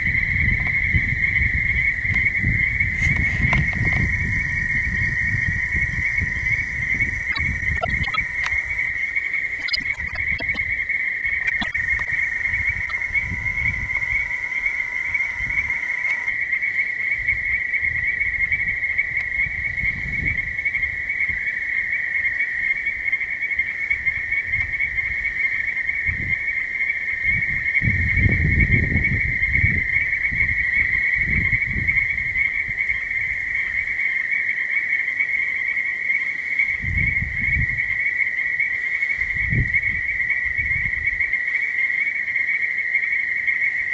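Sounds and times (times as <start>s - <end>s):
frogs trilling: 0.0s - 43.9s.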